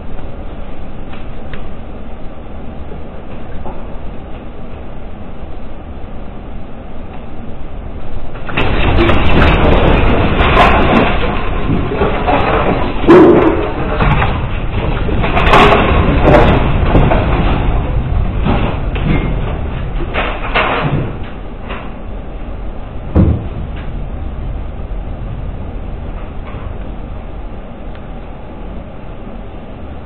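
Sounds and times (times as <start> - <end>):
earthquake low rumble: 0.0 - 30.0.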